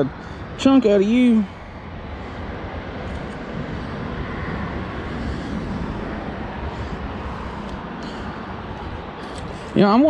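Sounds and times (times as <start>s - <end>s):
highway traffic hum: 0.0s - 10.0s.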